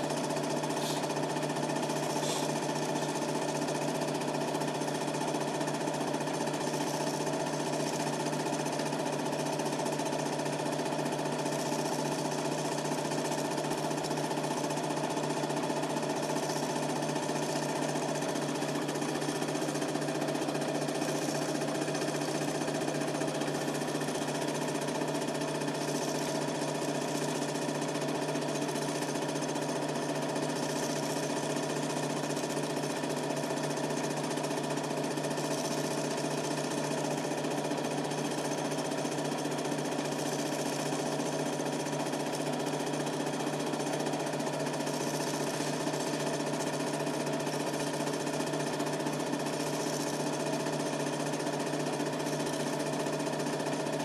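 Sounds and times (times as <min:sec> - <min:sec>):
motor hum: 0:00.0 - 0:47.4
film projector clatter: 0:00.0 - 0:54.0.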